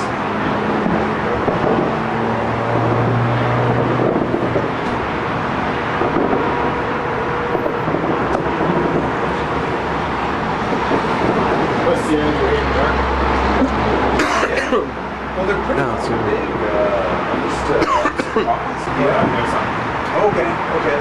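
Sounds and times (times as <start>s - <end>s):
low engine-like hum: 0.0s - 21.0s
road traffic: 0.0s - 21.0s.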